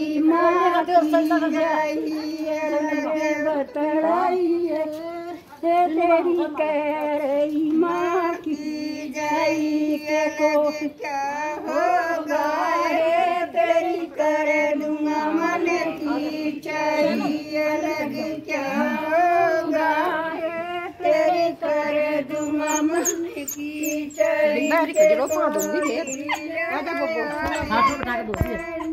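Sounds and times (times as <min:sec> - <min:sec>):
women singing a folk song: 0:00.0 - 0:28.9.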